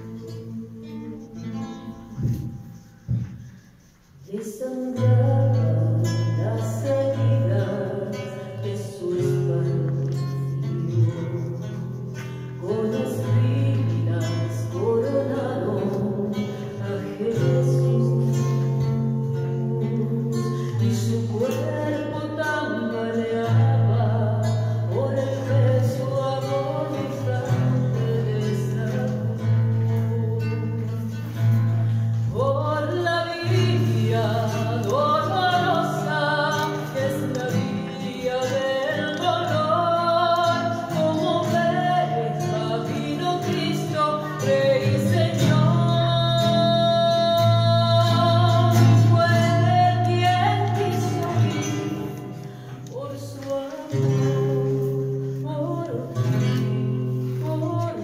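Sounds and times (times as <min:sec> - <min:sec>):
woman singing a hymn: 0:00.0 - 0:02.5, 0:04.2 - 0:58.0
acoustic guitar: 0:00.0 - 0:58.0.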